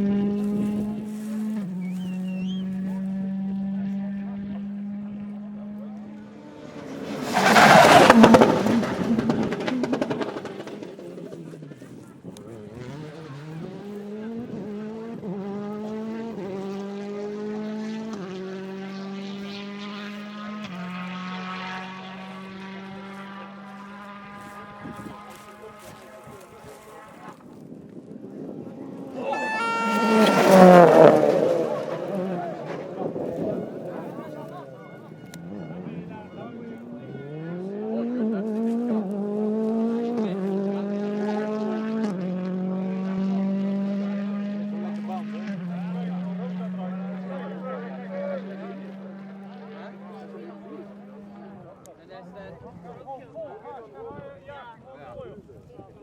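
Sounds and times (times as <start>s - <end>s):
car engine accelerating: 0.0s - 52.4s.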